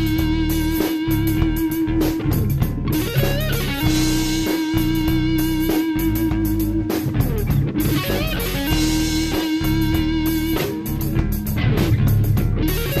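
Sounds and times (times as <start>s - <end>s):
bass guitar: 0.0s - 13.0s
drum kit with cymbal crashes: 0.0s - 13.0s
electric guitar bending notes: 0.0s - 13.0s.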